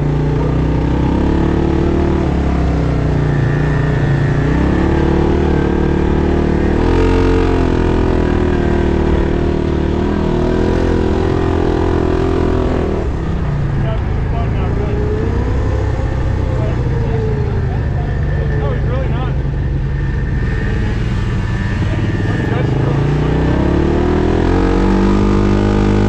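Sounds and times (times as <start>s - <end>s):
vehicle engine revving under load: 0.0s - 26.0s.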